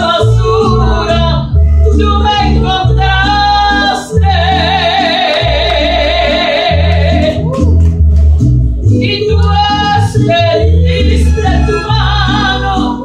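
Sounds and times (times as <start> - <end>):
woman singing into microphone: 0.0 - 7.4, 9.0 - 13.0
backing track with bass notes: 0.0 - 13.0.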